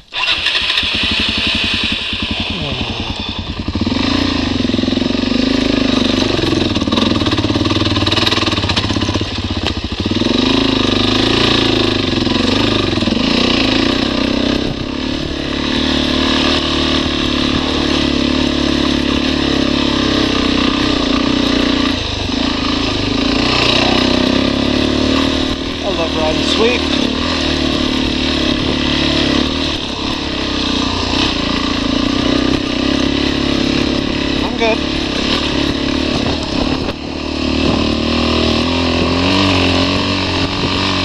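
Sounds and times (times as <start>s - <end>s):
dirt bike engine revving: 0.0s - 41.0s
wind and road noise: 0.0s - 41.0s.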